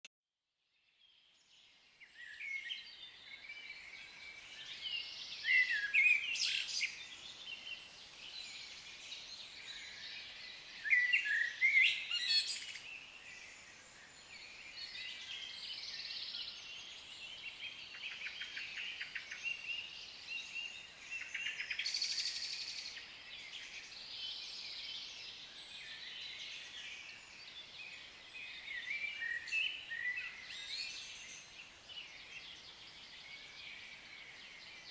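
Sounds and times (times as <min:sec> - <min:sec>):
forest birds singing: 0:00.8 - 0:34.9.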